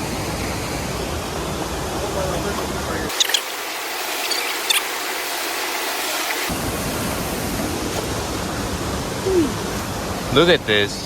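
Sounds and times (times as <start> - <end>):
falling water rushing: 0.0 - 11.0.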